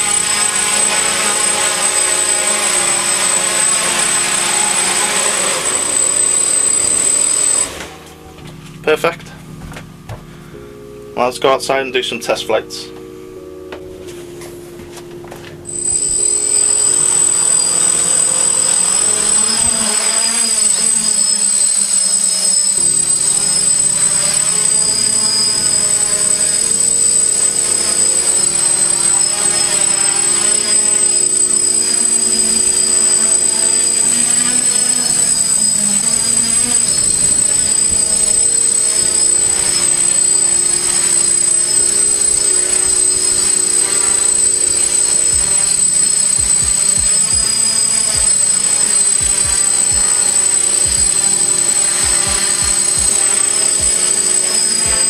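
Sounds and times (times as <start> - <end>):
drone motors and propellers buzzing: 0.0 - 8.1, 15.7 - 55.0
steady high whine: 0.0 - 55.0.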